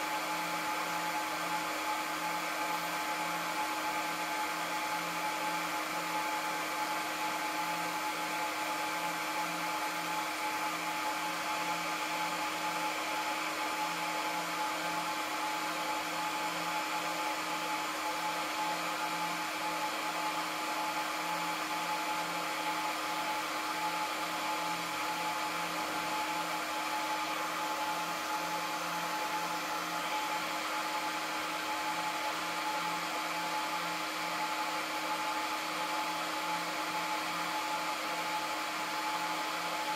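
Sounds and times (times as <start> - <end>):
fan whine: 0.0 - 39.9.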